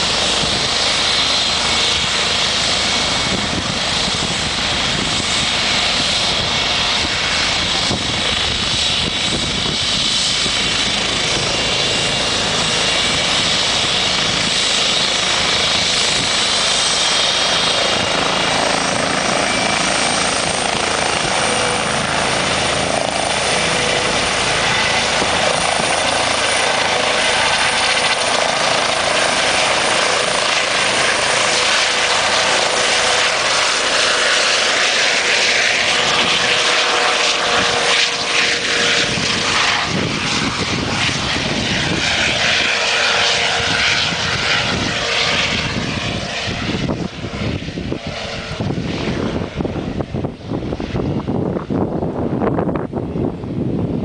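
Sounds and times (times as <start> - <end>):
helicopter rotor and turbine: 0.0 - 54.0
high turbine whine: 0.0 - 54.0.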